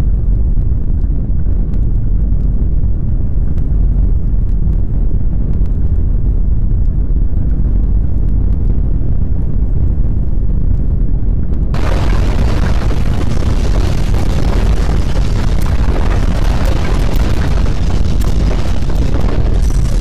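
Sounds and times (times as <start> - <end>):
deep earthquake rumble: 0.0 - 20.0
faint crackles: 0.0 - 20.0.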